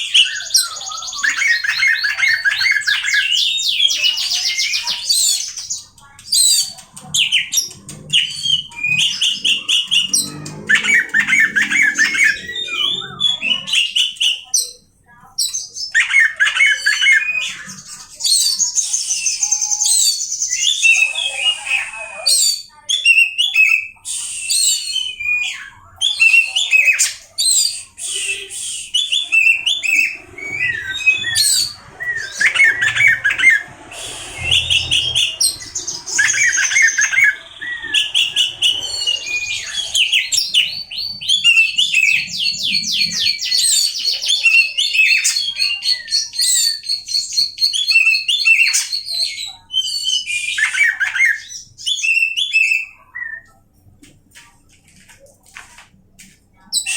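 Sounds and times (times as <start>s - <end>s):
bird singing with whistles and trills: 0.0s - 53.6s.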